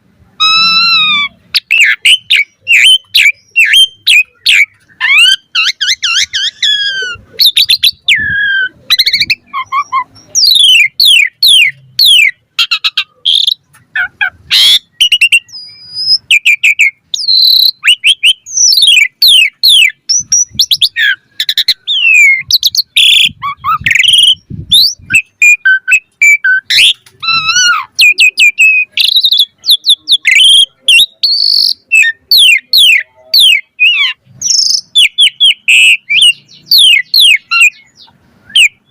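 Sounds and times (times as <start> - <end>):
starling singing whistles and chatter: 0.0 - 38.9.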